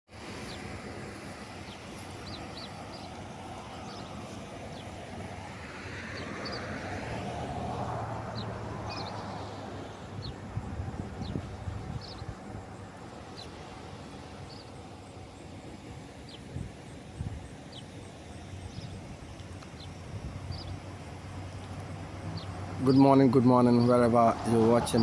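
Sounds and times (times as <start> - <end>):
vehicle passing by: 0.3 - 15.1, 18.5 - 25.0
small birds chirping: 0.3 - 25.0.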